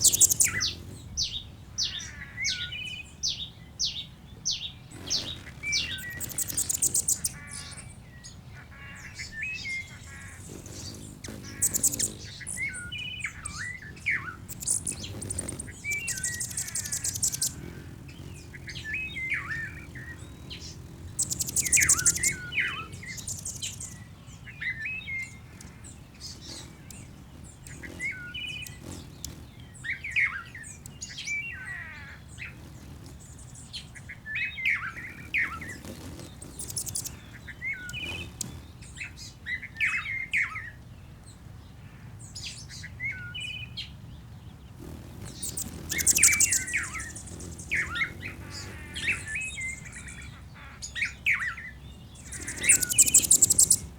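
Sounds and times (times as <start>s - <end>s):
loud high rapid bird trill: 0.0s - 40.7s, 44.8s - 53.9s
birds chirping: 0.0s - 53.9s.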